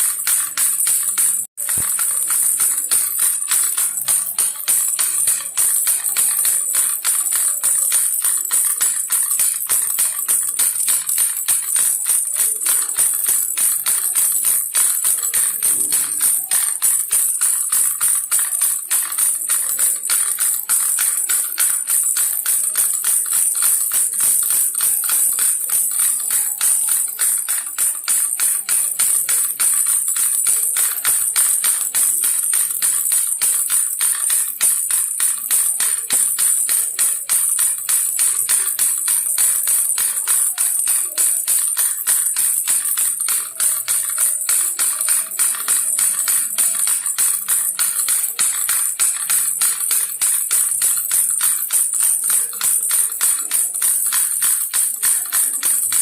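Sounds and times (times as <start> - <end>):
baby rattle shaken: 0.0 - 56.0.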